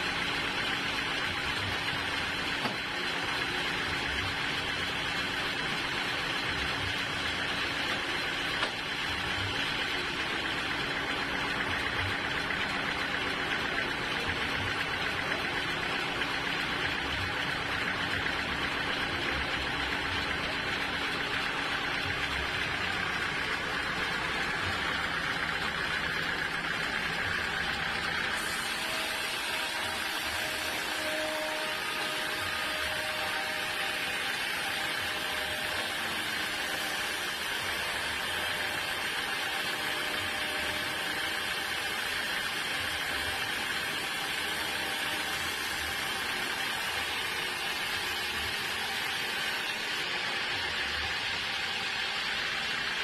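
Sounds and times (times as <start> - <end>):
sawmill machinery humming: 0.0 - 53.0.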